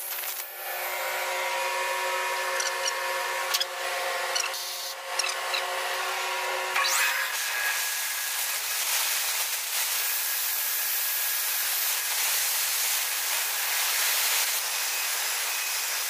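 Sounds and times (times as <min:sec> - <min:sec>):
air compressor running: 0:00.0 - 0:16.0.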